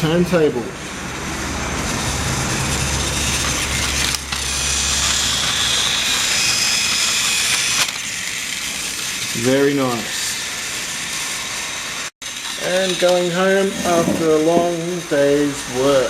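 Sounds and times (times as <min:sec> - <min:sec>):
toy train motor whirring: 0:00.8 - 0:16.0.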